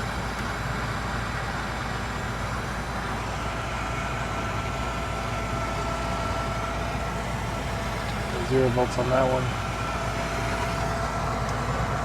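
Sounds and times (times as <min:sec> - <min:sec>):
furnace motor running: 0:00.0 - 0:12.0.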